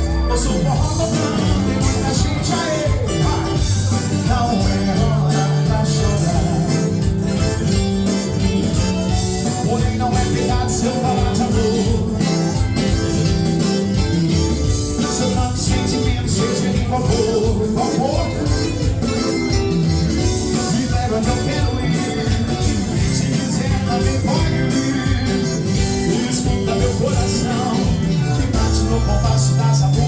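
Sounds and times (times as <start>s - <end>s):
person singing: 0.0s - 8.4s, 9.3s - 13.9s, 14.9s - 19.4s, 20.1s - 30.0s
band playing folk dance music: 0.0s - 30.0s
steady beat: 0.0s - 30.0s.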